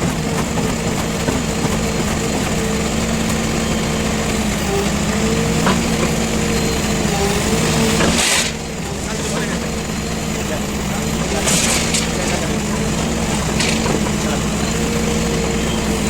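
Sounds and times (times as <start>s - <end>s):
diesel engine under load: 0.0s - 16.0s.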